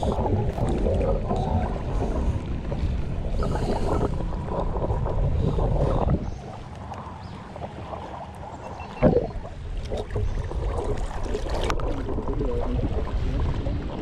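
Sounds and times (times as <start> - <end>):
muffled underwater stream rush: 0.0 - 14.0.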